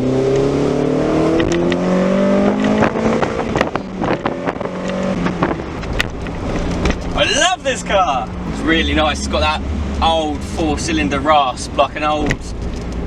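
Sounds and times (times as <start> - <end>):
car engine accelerating with rasp: 0.0 - 13.0.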